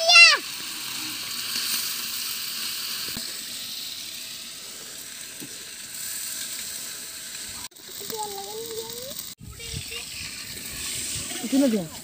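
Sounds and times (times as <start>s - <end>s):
food sizzling in a metal pot: 0.0s - 12.0s.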